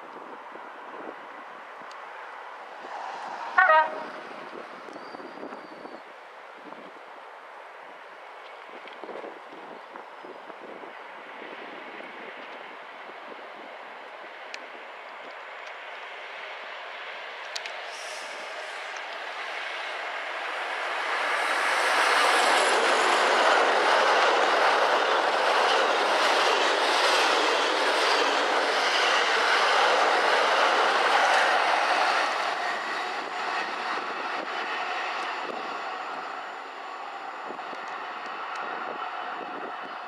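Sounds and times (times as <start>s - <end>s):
diesel locomotive passing: 0.2s - 40.0s.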